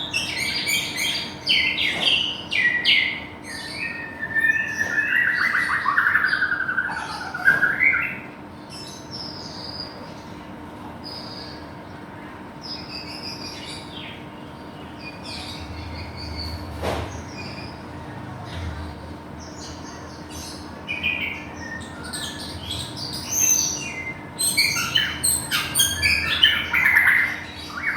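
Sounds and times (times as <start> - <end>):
bird singing: 0.0 - 10.4, 11.0 - 27.9.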